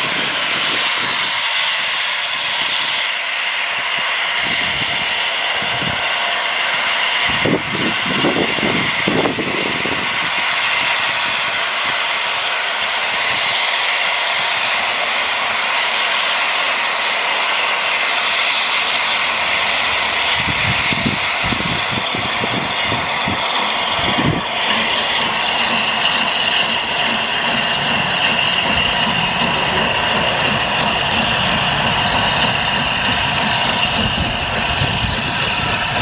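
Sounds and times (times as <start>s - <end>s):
steam train rushing past: 0.0s - 36.0s.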